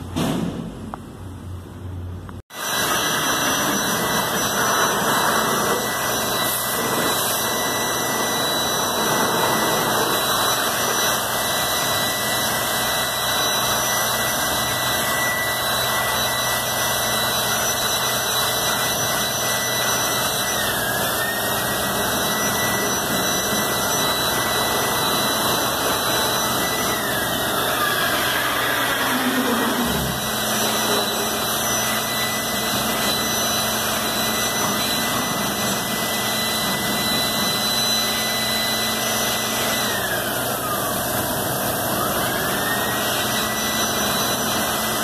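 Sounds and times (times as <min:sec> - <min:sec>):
high whine of machines: 0:01.8 - 0:45.0
pressure washer water jets hissing: 0:02.6 - 0:38.6.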